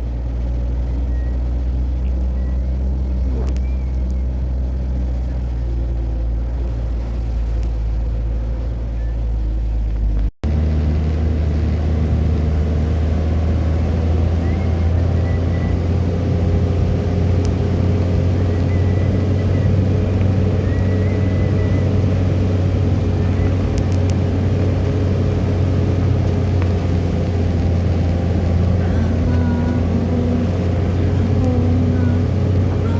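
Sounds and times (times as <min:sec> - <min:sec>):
vehicle engine and road drone: 0:00.0 - 0:32.9.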